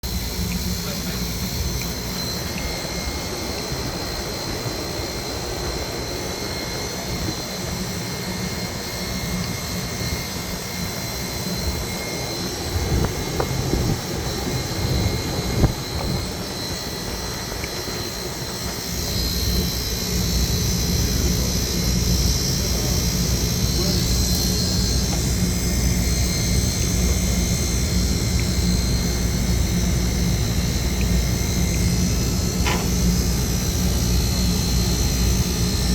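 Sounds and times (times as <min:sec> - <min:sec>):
condensing unit fan and compressor drone: 0:00.0 - 0:35.9
faint high whine: 0:00.0 - 0:35.9.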